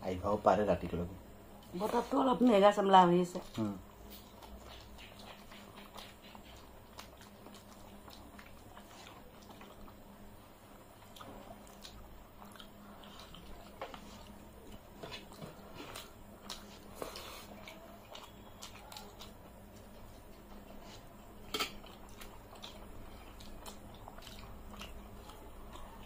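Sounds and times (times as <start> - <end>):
chewing: 3.3 - 26.0.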